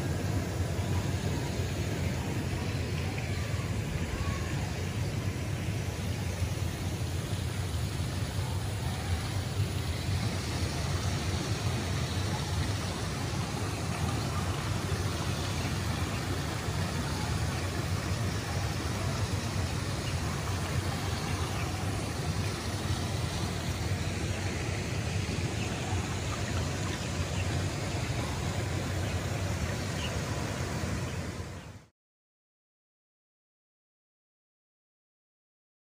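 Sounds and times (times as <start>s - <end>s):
steady rushing noise: 0.0s - 31.9s.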